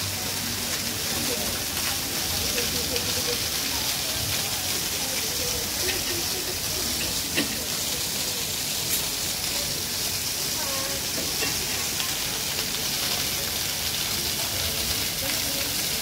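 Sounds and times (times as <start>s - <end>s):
faint voices: 0.0s - 16.0s
fountain water splashing: 0.0s - 16.0s.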